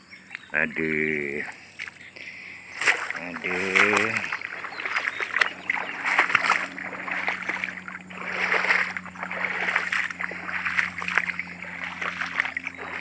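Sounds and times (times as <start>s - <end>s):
footsteps splashing through water: 1.5s - 13.0s.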